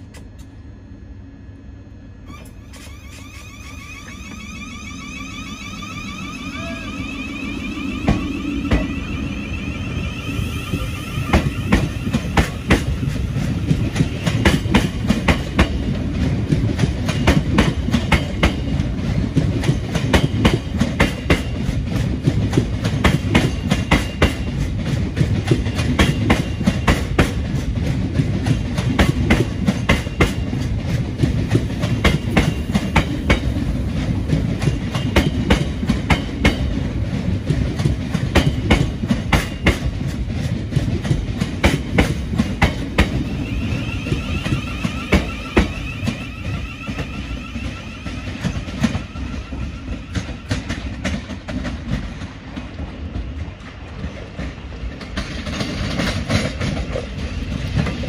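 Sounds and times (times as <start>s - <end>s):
train running slowly past: 0.0s - 58.0s
wheels clicking over rail joints: 11.3s - 58.0s.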